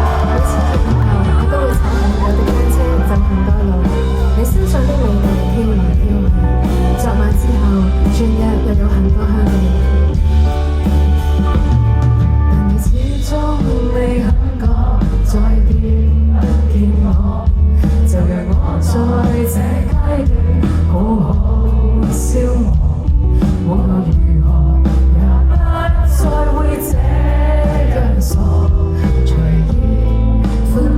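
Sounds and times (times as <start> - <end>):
person singing: 0.0 - 10.1, 12.7 - 30.9
heavy steady bass: 0.0 - 30.9
live pop band playing: 0.0 - 30.9.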